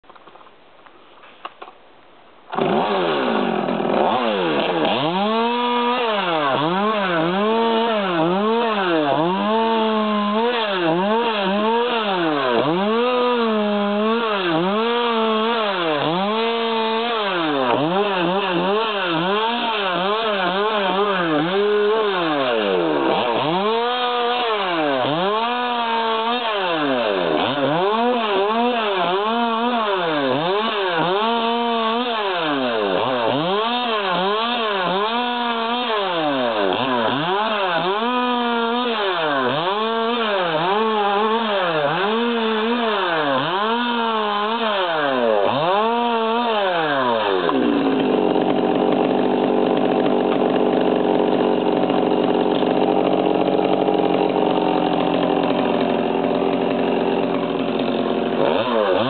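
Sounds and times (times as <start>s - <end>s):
chainsaw revving: 2.5s - 59.0s.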